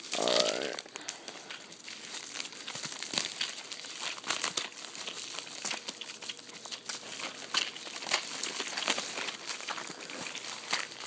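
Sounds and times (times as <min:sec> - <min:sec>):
packing material crinkling: 0:00.0 - 0:11.0.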